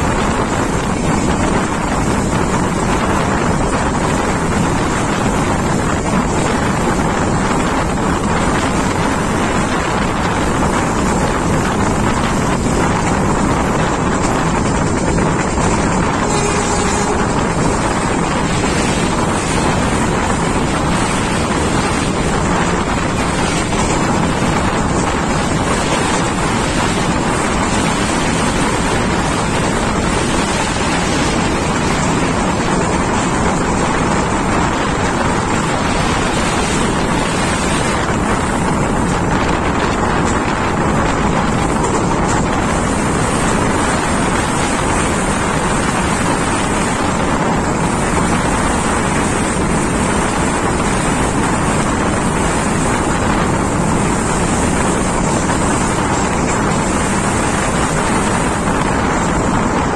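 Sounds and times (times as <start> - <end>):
train wheels running on rails: 0.0 - 59.9
wind rushing over microphone: 0.0 - 59.9.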